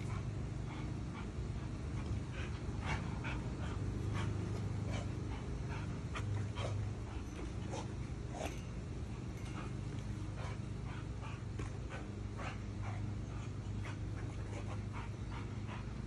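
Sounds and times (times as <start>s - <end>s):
dog panting: 0.0s - 16.0s
low steady hum: 0.0s - 16.0s.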